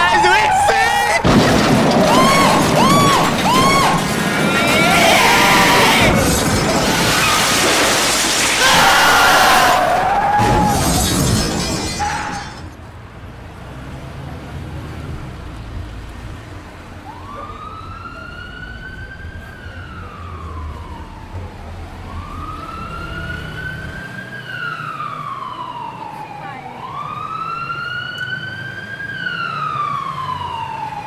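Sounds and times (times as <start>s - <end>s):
police siren wailing: 0.0s - 11.0s, 17.0s - 31.0s.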